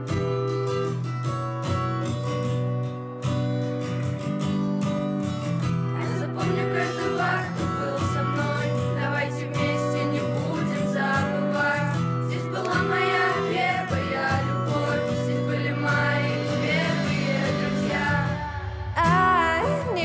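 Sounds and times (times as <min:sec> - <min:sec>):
instrumental guitar and bass music: 0:00.0 - 0:20.0.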